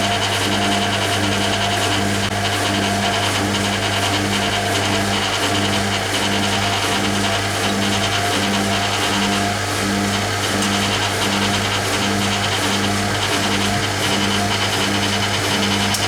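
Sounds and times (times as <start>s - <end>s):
washing machine draining: 0.0s - 16.0s.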